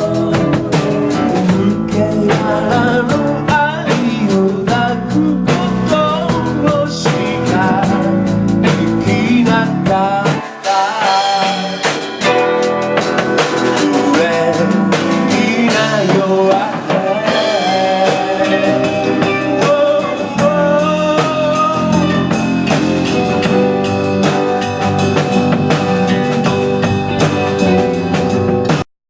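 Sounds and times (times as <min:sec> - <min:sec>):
drum kit beat: 0:00.0 - 0:28.9
guitar: 0:00.0 - 0:28.9.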